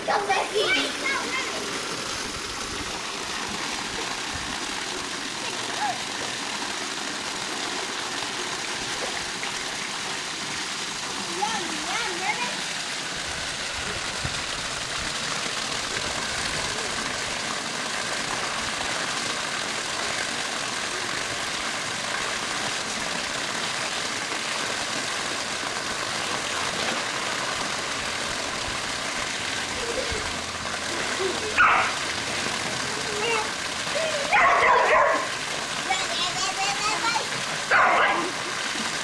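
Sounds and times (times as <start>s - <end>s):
water pouring into pool: 0.0s - 39.0s.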